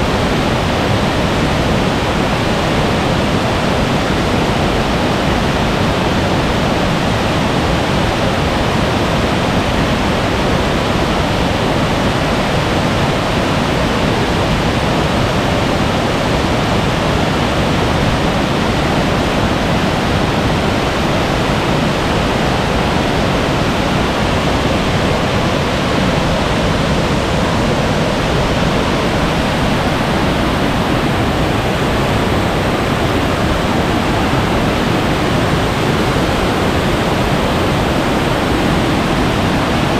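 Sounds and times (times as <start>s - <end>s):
heavy rain: 0.0s - 39.9s
stream water rushing: 0.0s - 39.9s.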